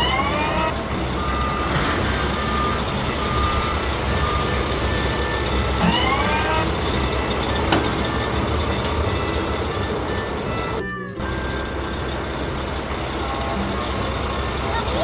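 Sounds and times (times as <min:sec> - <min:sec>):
reversing beeps: 0:00.0 - 0:12.5
rising whine: 0:00.0 - 0:14.7
engine rumble: 0:00.0 - 0:15.0.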